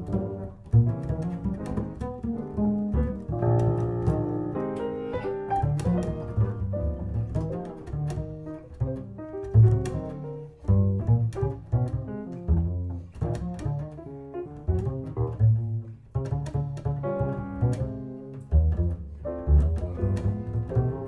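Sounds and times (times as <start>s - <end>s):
double bass plucked jazz line: 0.0s - 21.0s.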